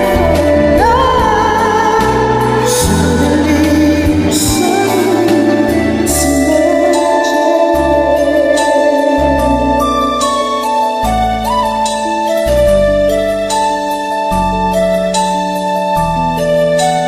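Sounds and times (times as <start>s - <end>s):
pop ballad: 0.0s - 17.0s.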